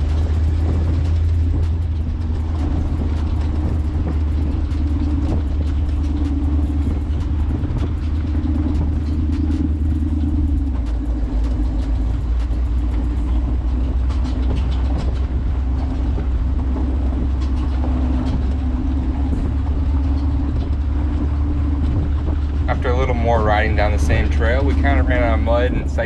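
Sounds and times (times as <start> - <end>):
car engine drone: 0.0 - 26.0
rattles and knocks: 0.0 - 26.0.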